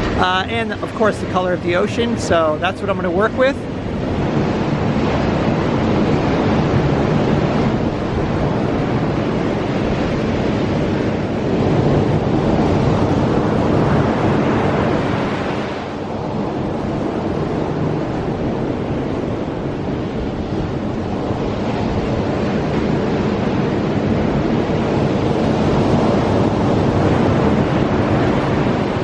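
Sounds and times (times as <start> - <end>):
ocean surf: 0.0 - 29.0
wind on microphone: 0.0 - 29.0.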